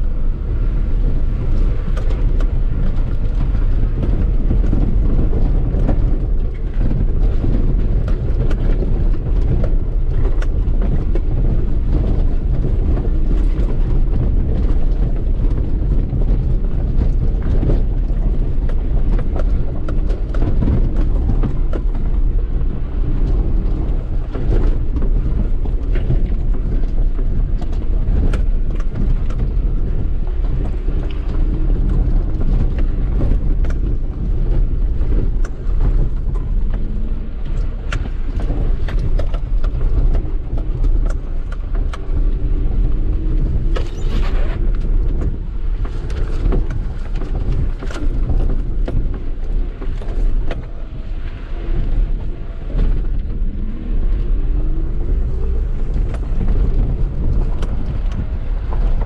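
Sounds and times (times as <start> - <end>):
body and suspension rattling: 0.0 - 59.0
car engine running: 0.0 - 59.0.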